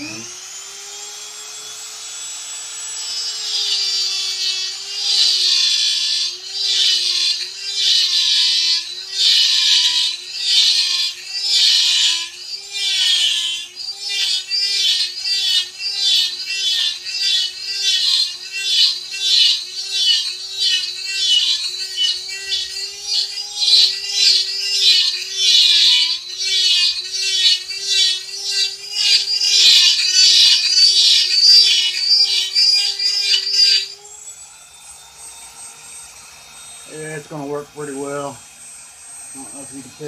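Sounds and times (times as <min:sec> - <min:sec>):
rotary tool grinding wood: 0:00.0 - 0:40.0
rotary tool whining: 0:00.0 - 0:40.0.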